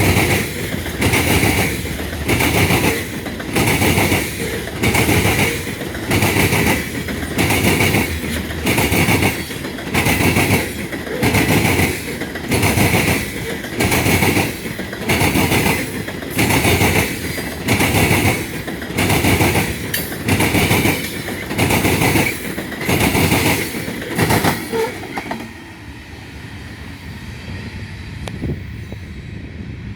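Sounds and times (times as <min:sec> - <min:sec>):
train wheels clacking over rail joints: 0:00.0 - 0:25.6
train rumble: 0:00.0 - 0:29.9.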